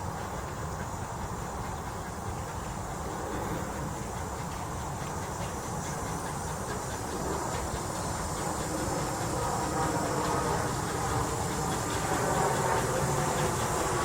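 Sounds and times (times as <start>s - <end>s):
steam hissing: 0.0s - 14.0s
steam locomotive running: 0.0s - 14.0s.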